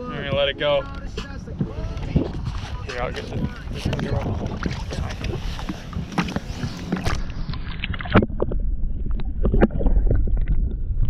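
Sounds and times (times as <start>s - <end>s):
low boat rumble: 0.0s - 11.0s.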